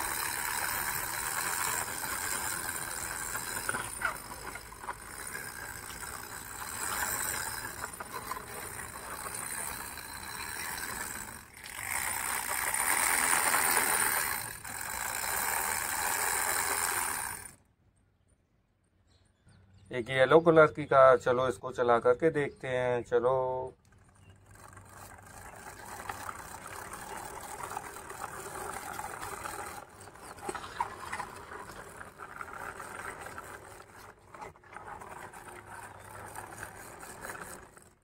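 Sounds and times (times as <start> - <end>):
toy car wheels scraping on concrete: 0.0 - 17.6, 23.8 - 38.0.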